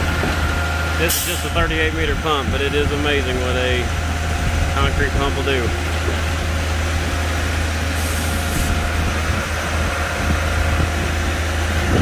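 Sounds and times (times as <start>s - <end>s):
diesel engine running at raised revs: 0.0s - 12.0s.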